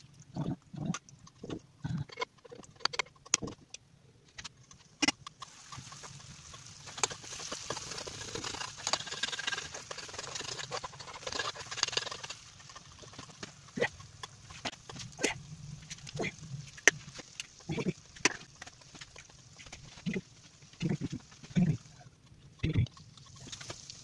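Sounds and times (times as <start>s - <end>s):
food sizzling: 4.7s - 24.0s.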